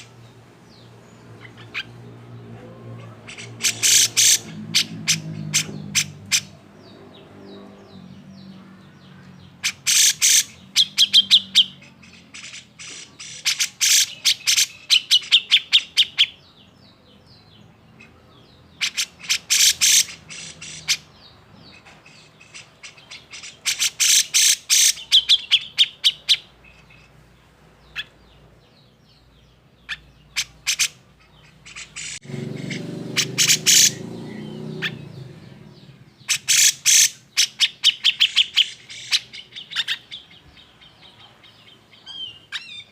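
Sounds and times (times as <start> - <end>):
bird harsh chattering calls: 0.0 - 42.9.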